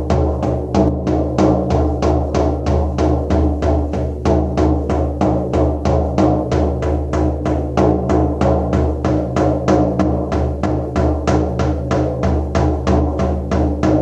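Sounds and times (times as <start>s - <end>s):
frame drum beating: 0.0s - 14.0s.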